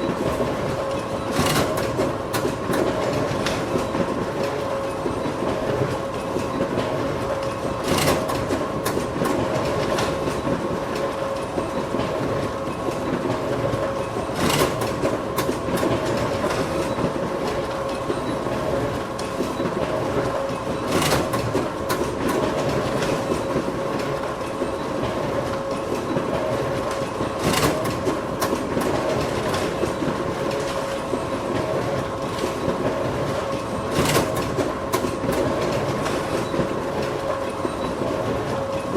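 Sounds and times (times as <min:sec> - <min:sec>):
photocopier humming and whirring: 0:00.0 - 0:38.9.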